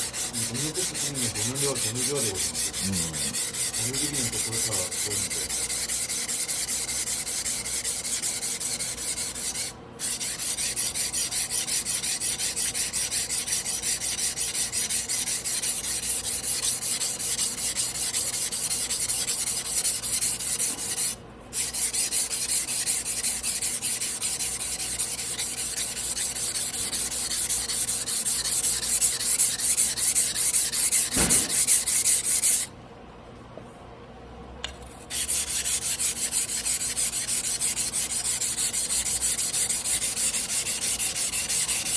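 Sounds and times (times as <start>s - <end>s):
knife rasping on whetstone: 0.0s - 32.7s, 34.7s - 41.9s.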